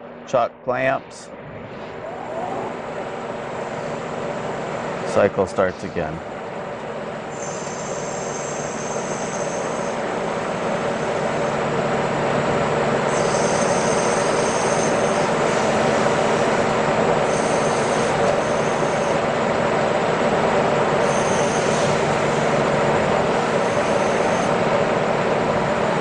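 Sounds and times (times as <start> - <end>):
lathe machine running: 1.3 - 26.0.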